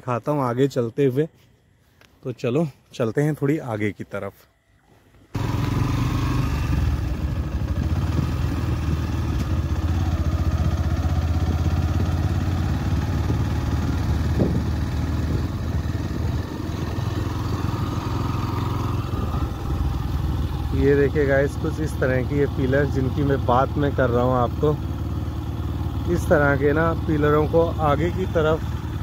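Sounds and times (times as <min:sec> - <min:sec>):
motorcycle engine running: 0:05.4 - 0:29.0.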